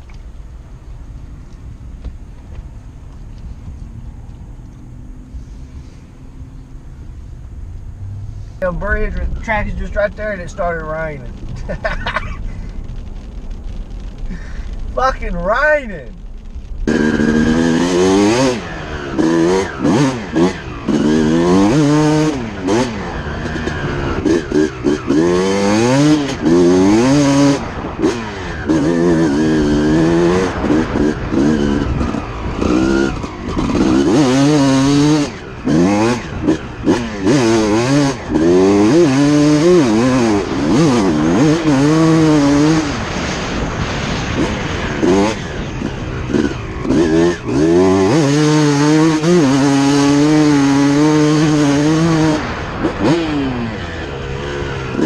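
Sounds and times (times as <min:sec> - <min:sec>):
dirt bike engines revving: 0:02.8 - 0:55.0.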